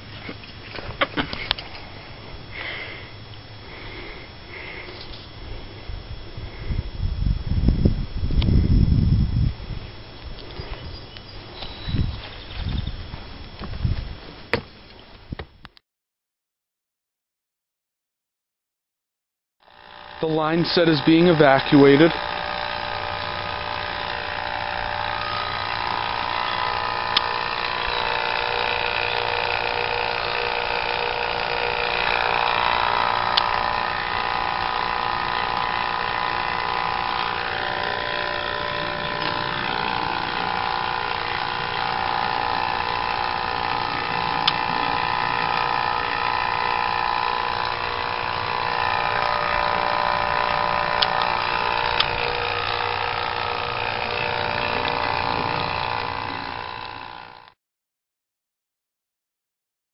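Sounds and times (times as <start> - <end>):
vacuum pump motor hum: 0.0 - 15.8, 19.6 - 57.6.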